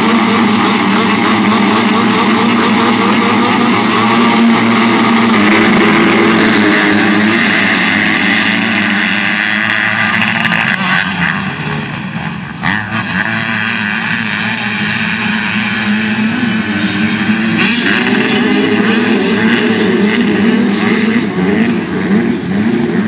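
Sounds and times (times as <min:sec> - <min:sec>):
motocross bikes revving: 0:00.0 - 0:23.0.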